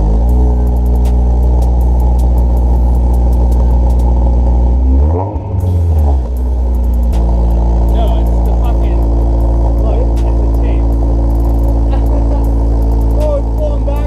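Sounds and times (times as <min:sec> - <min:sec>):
car engine idling: 0:00.0 - 0:14.0
engine revving: 0:00.0 - 0:14.0.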